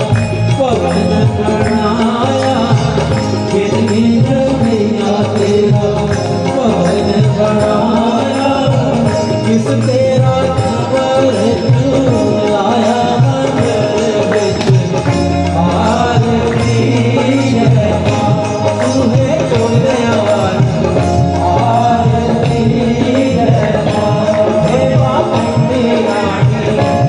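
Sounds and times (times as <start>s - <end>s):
melodic instrumental accompaniment: 0.0s - 27.0s
person singing devotional song: 0.0s - 27.0s
tabla: 0.0s - 27.0s.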